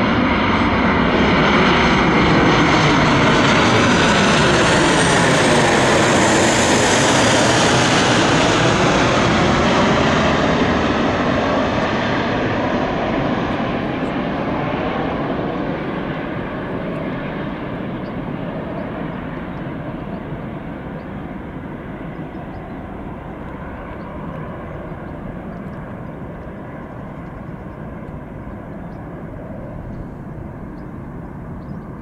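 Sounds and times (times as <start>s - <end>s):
jet engines of airliner: 0.0s - 32.0s.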